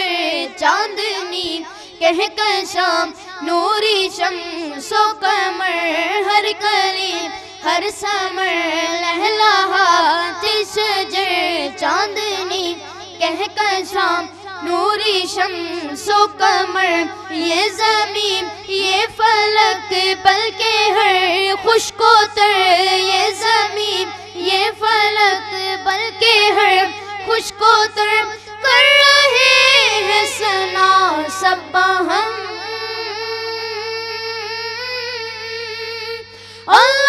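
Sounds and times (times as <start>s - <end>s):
boys singing devotional song: 0.0s - 37.0s
steady low hum: 0.0s - 37.0s.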